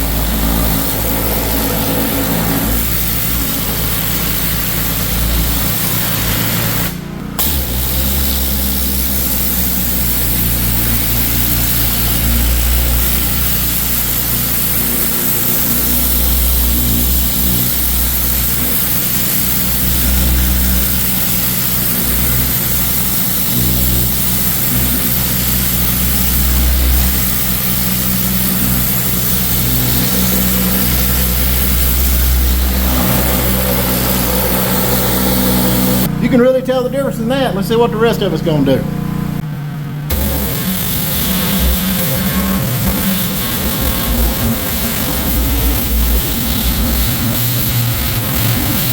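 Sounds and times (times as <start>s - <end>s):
high-pressure water jet hissing: 0.0s - 36.1s, 40.1s - 48.9s
pressure washer engine drone: 0.0s - 48.9s.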